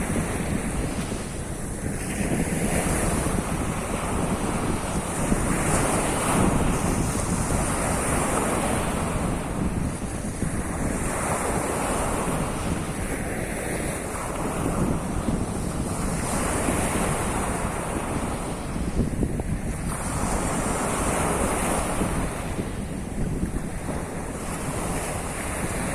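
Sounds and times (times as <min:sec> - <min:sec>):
waves washing onto shore: 0:00.0 - 0:25.9
wind buffeting microphone: 0:00.0 - 0:25.9.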